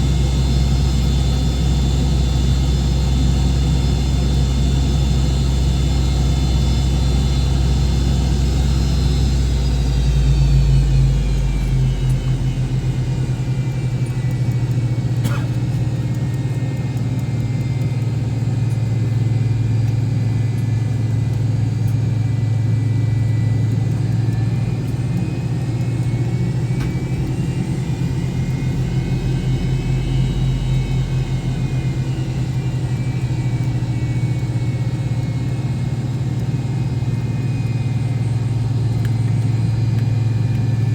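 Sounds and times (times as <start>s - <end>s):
jet engine low hum: 0.0s - 40.9s
turbine whine: 0.0s - 40.9s.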